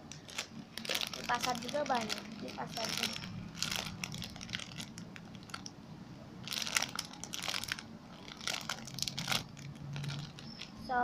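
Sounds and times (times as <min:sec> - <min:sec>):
packaging crinkling and rustling: 0:00.0 - 0:05.7, 0:06.4 - 0:11.0.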